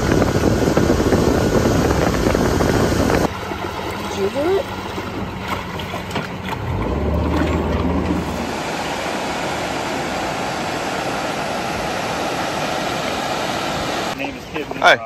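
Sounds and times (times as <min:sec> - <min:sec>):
water gushing into spillway: 0:00.0 - 0:14.6
outboard motor running: 0:00.0 - 0:15.0.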